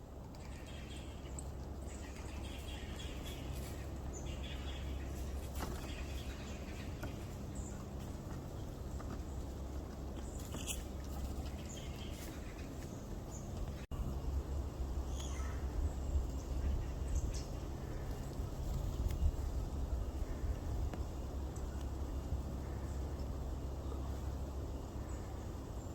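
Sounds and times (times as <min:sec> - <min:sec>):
steady low rumble: 0:00.0 - 0:25.9.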